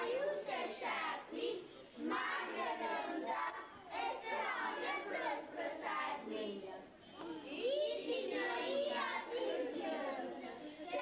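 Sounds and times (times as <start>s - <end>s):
crowd of voices with children: 0.0s - 11.0s.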